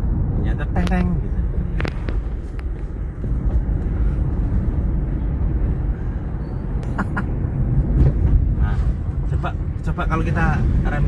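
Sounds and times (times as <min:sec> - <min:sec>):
road and tyre rumble: 0:00.0 - 0:11.0.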